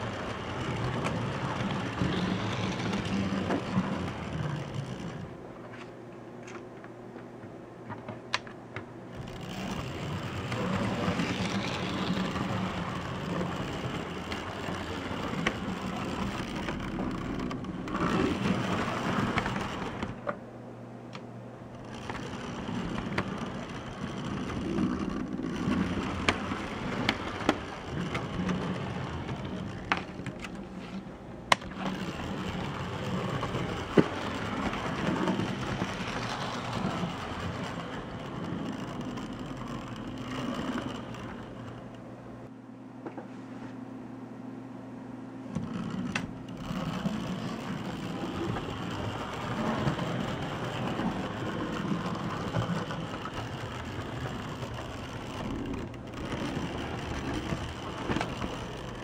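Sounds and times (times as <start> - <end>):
model train motor whirring: 0.0 - 5.4, 9.1 - 20.3, 21.7 - 42.0, 45.6 - 59.0.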